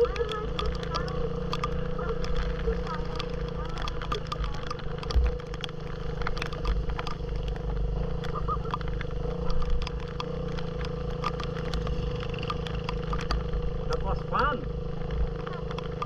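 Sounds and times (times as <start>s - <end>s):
motorcycle engine running: 0.0s - 16.0s
sharp ticks and rattles: 0.0s - 16.0s.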